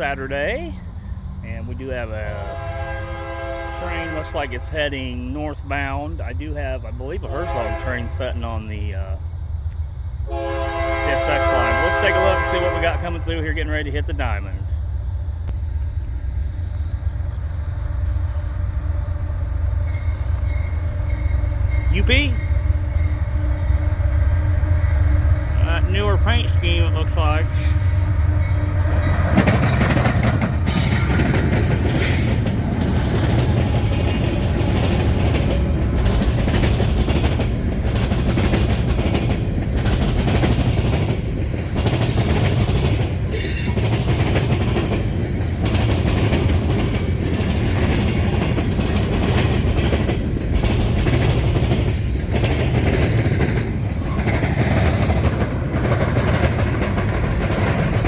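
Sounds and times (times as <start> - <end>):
train cars rumbling past: 0.0 - 58.0.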